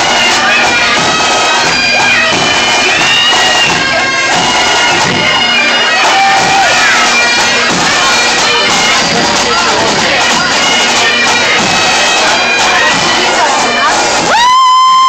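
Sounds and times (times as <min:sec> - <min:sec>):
bagpipes playing: 0:00.0 - 0:14.4
bar crowd chatter: 0:00.0 - 0:15.0.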